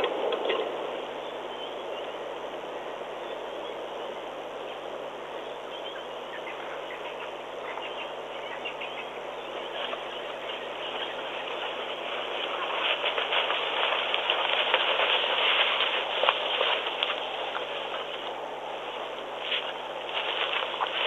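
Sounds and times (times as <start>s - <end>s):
bush ambience hiss: 0.0s - 21.0s.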